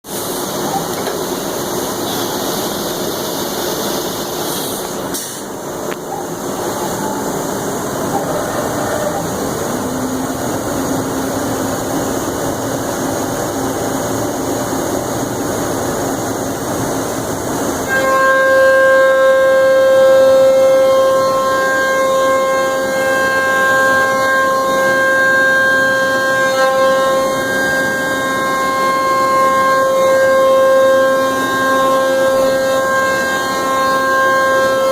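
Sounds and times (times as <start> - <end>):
loud multi-tone whine: 0.4 - 34.9.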